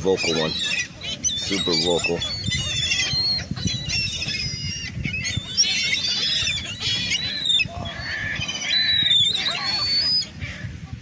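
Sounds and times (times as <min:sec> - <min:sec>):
seagulls calling: 0:00.0 - 0:11.0
wind rumble on microphone: 0:00.0 - 0:11.0.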